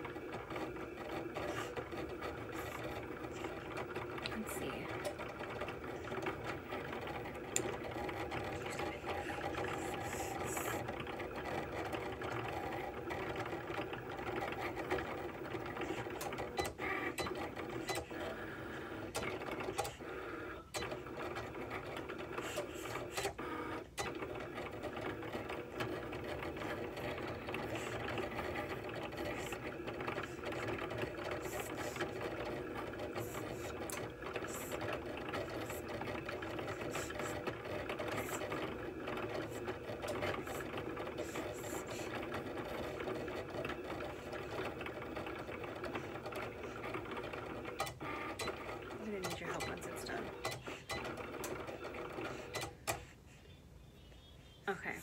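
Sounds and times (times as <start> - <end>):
cutting machine motors whirring: 0.0 - 53.2.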